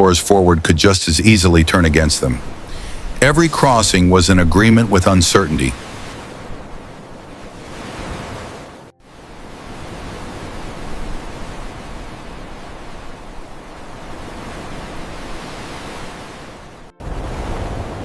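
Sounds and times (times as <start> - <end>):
ocean surf rushing: 0.0 - 18.0.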